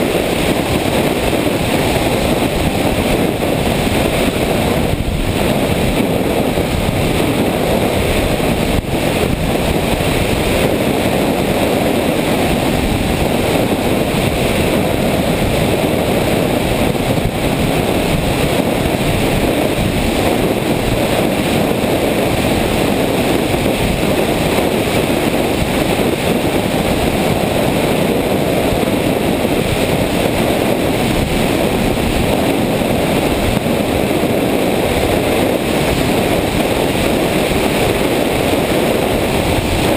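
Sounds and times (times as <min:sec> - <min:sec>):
airflow rushing over microphone: 0:00.0 - 0:39.9.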